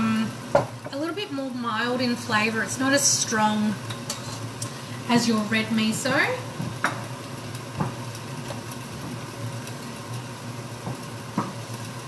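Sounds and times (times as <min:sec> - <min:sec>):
stir-fry sizzling in a wok: 0:00.0 - 0:12.0.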